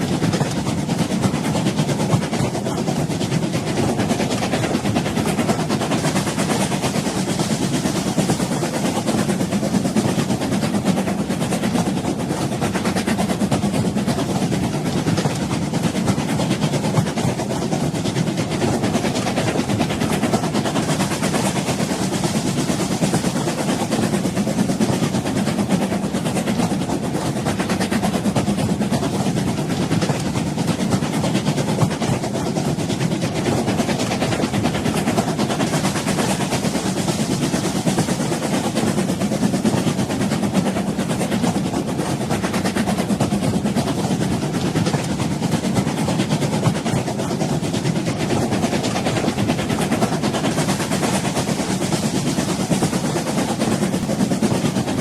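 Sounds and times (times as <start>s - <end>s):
train rumbling and rattling: 0.0s - 55.0s.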